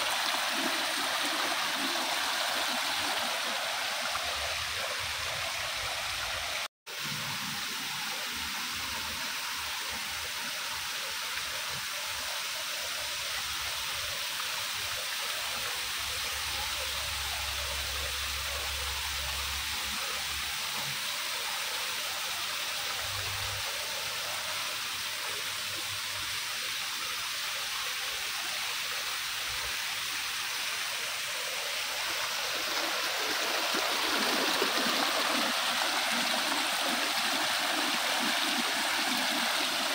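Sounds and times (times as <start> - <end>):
water running over rocks: 0.0 - 39.9.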